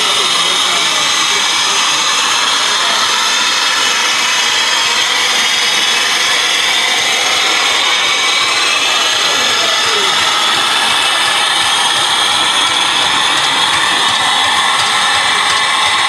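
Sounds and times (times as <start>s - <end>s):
steam hissing from locomotive: 0.0s - 16.0s.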